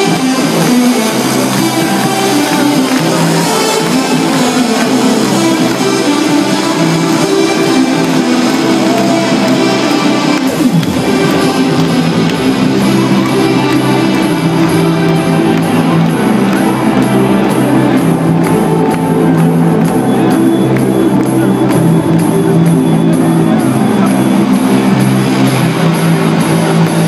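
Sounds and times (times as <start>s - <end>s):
electronic dance music: 0.0s - 27.0s.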